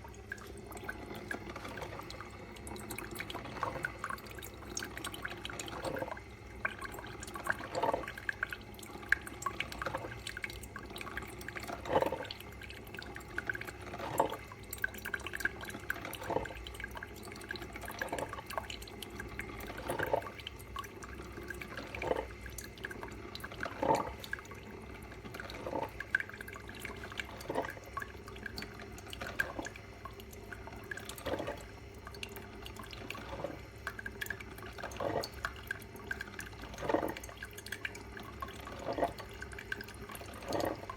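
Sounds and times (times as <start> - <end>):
coffee maker dripping: 0.0 - 40.9.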